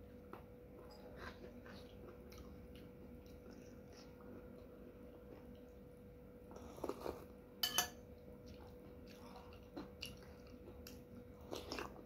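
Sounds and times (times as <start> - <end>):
faint steady hum: 0.0 - 12.0
person chewing soup: 0.3 - 5.8, 6.5 - 7.4, 8.1 - 12.0.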